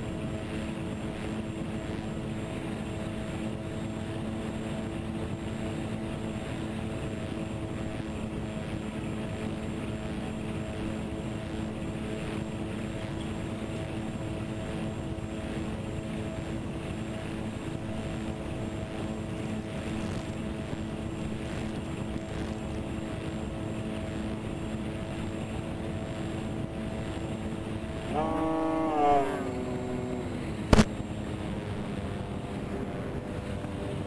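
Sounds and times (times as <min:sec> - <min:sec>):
model plane motors humming: 0:00.0 - 0:34.0.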